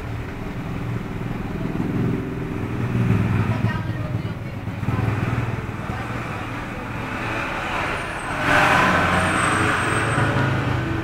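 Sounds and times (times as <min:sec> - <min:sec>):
road traffic rumble: 0:00.0 - 0:11.0
vehicle passing: 0:00.6 - 0:11.0.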